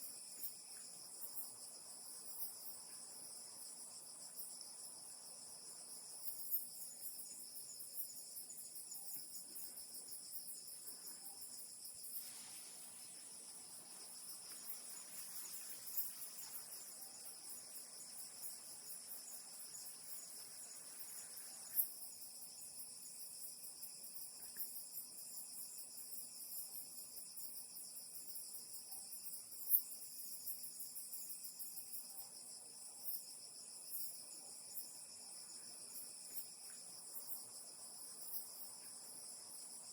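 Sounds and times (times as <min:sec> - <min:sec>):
crickets and insects trilling: 0:00.0 - 0:26.6, 0:27.2 - 0:39.9.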